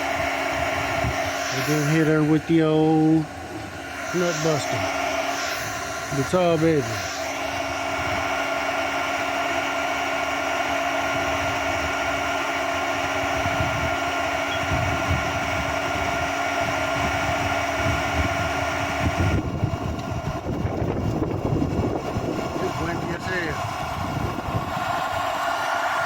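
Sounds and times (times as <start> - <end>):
induction heater fan hum and whine: 0.0 - 26.0.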